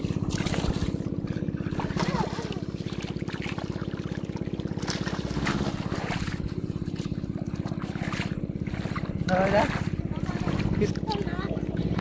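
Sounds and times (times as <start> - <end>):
small engine running: 0.0 - 12.0
water splashing: 0.0 - 12.0.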